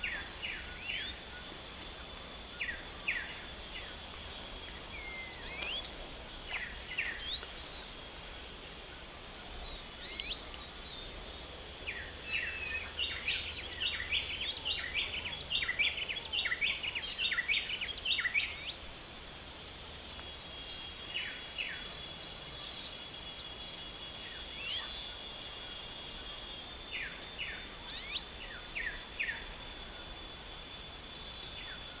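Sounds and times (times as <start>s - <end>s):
small birds chirping: 0.0s - 18.8s, 19.4s - 29.6s
high insect drone: 0.0s - 32.0s.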